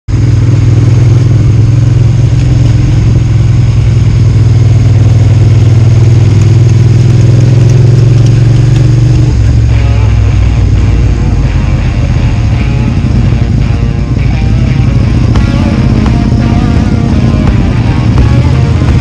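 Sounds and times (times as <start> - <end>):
motorcycle engine running: 0.1 - 19.0.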